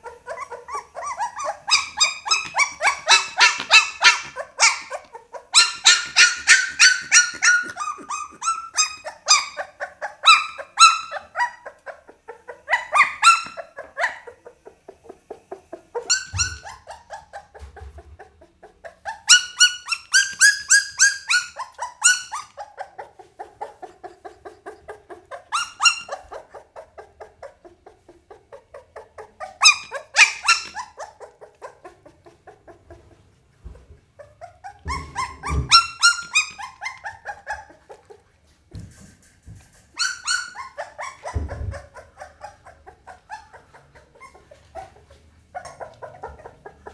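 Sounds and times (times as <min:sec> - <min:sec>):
puppy whining and yelping: 0:00.0 - 0:46.9.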